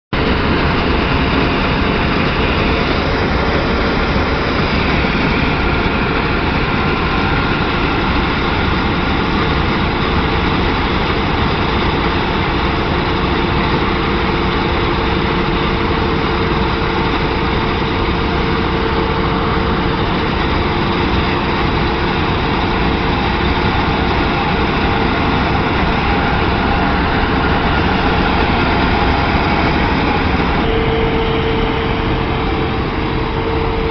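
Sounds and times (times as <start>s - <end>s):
combine harvester droning: 0.2s - 33.9s.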